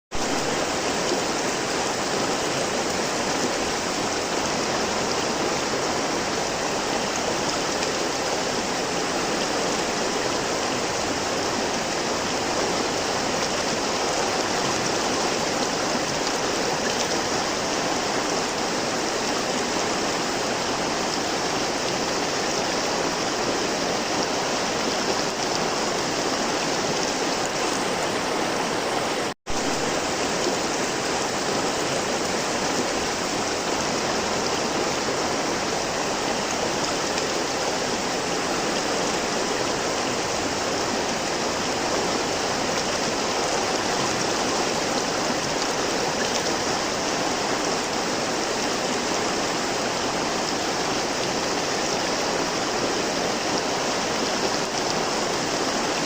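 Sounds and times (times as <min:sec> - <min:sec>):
river water rushing over rocks: 0:00.1 - 0:56.0.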